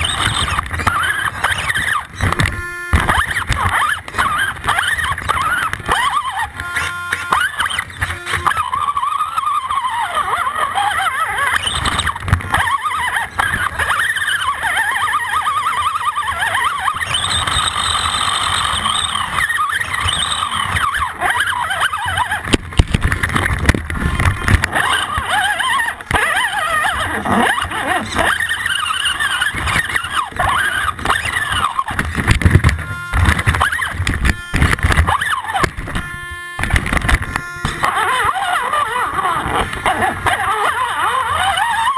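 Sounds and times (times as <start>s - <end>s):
electric motor whining: 0.0s - 41.9s.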